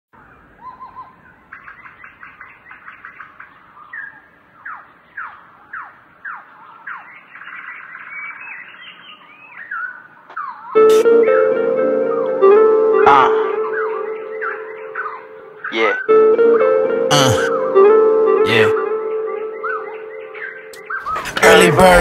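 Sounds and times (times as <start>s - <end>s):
birds chirping and warbling: 0.2s - 11.0s, 12.0s - 22.0s.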